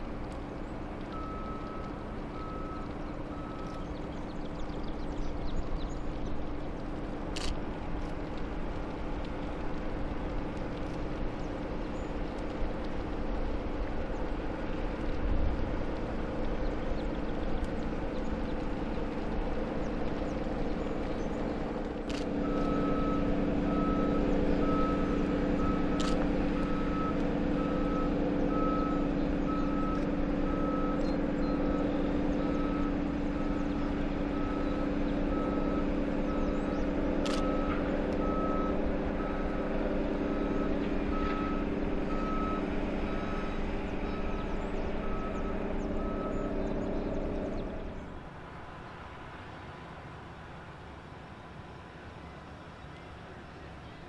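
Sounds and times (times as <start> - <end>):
ship engine hum: 0.0 - 54.0.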